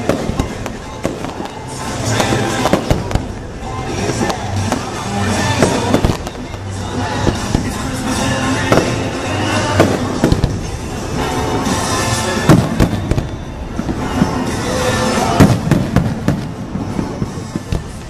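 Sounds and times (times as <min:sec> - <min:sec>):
fireworks bangs and crackles: 0:00.0 - 0:18.0
music: 0:00.0 - 0:18.0.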